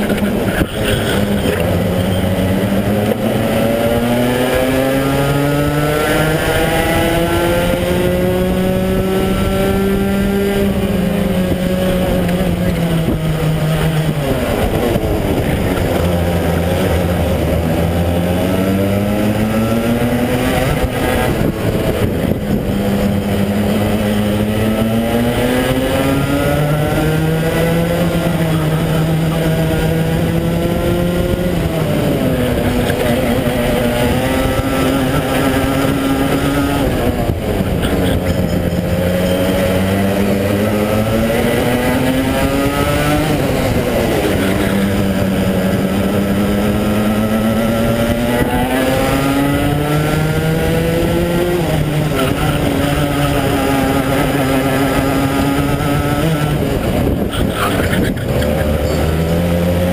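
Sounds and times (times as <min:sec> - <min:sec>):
other kart engines: 0:00.0 - 0:59.9
racing kart engine: 0:00.0 - 0:59.9.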